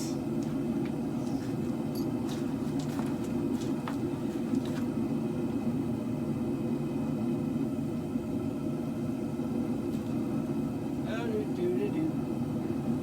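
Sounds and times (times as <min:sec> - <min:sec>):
gas forge burners roaring: 0:00.0 - 0:13.0.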